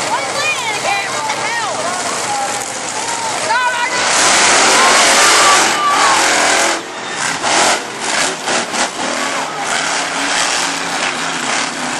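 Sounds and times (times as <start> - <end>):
truck engine at full throttle: 0.0 - 11.9.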